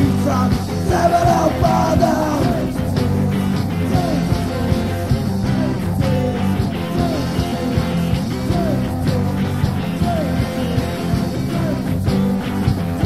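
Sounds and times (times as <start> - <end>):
punk rock band playing: 0.0 - 13.0.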